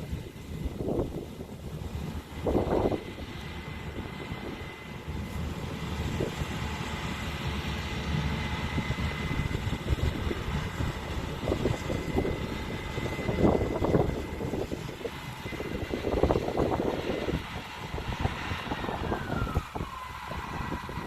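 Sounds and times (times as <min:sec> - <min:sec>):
harvester engine drone: 0:00.0 - 0:21.0.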